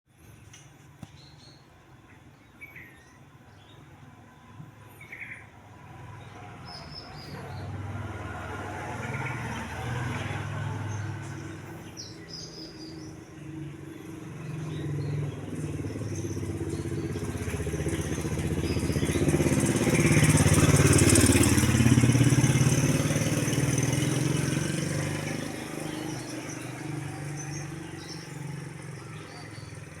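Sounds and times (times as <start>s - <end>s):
vehicle engine passing by: 5.1s - 30.0s.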